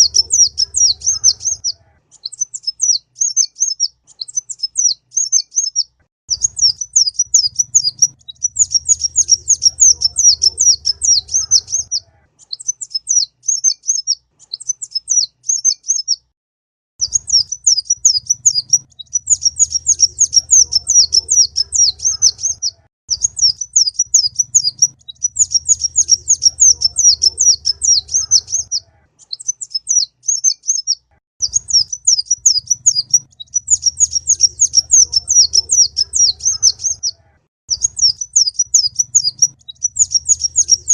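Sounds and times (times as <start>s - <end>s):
bird chirping song: 0.0s - 16.3s, 17.0s - 40.9s.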